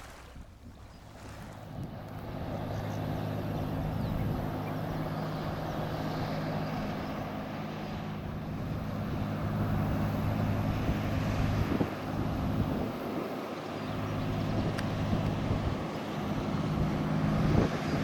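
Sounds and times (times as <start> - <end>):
ship engine humming: 0.0 - 18.0.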